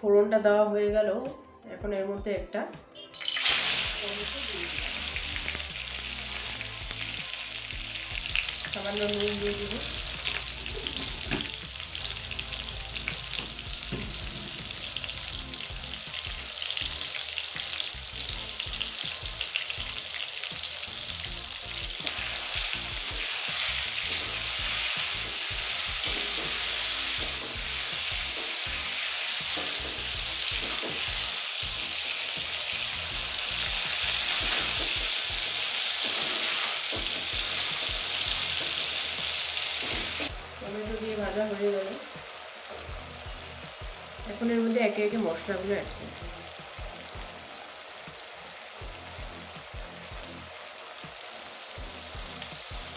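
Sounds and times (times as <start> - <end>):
food sizzling in oil: 3.1 - 52.9.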